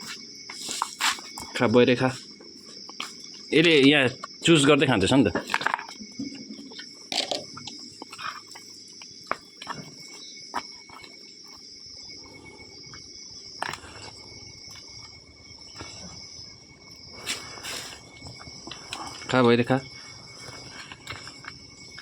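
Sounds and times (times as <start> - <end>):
insect chirring: 0.0 - 22.0.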